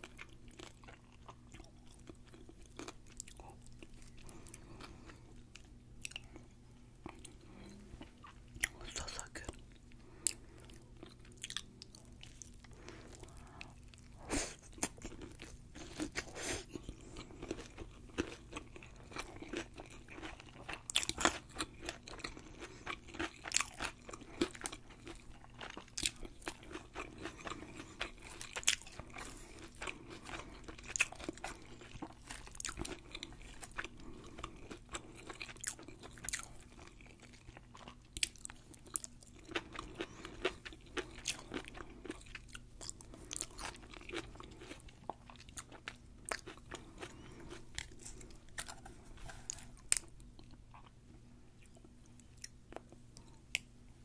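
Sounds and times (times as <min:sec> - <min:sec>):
chewing and crunching food: 0:00.0 - 0:53.8.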